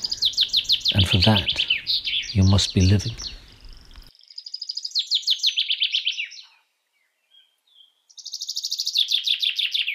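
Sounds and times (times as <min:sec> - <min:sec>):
songbird singing trill: 0:00.0 - 0:09.9.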